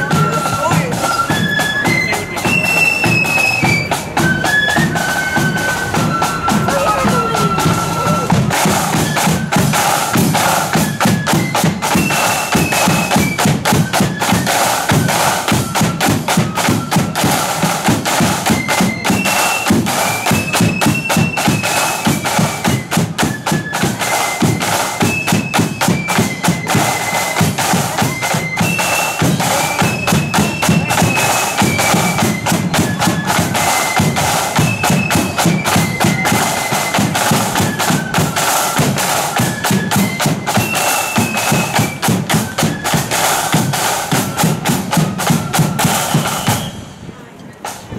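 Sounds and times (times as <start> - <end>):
heavy rapid drumming: 0.0 - 46.6
flute melody: 0.0 - 47.3.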